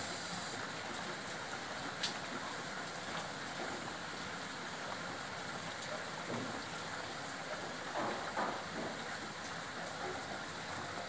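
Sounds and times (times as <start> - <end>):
rain on leaves: 0.0 - 11.0.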